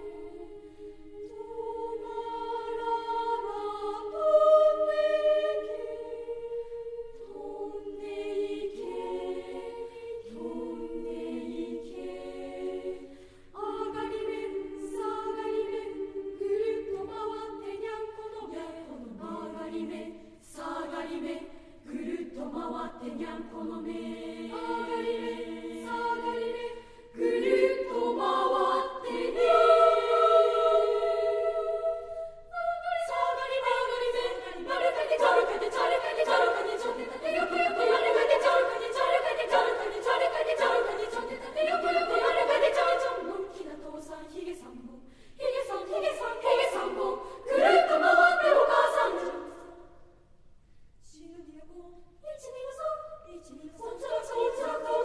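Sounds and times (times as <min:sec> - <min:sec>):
choir singing in parts: 0:00.0 - 0:50.3, 0:51.0 - 0:55.0.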